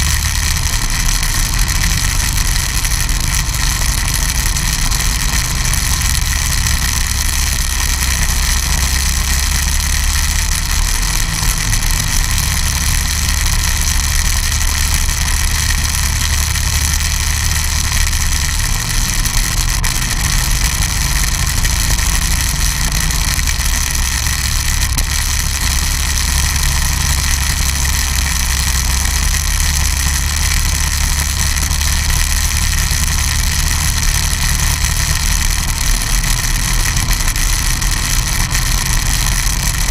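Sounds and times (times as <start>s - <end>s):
snowmobile engine droning: 0.0s - 39.9s.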